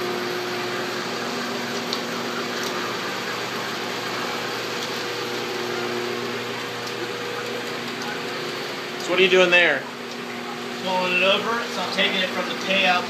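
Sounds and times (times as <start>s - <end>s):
projector machinery and fan hum: 0.0s - 13.0s.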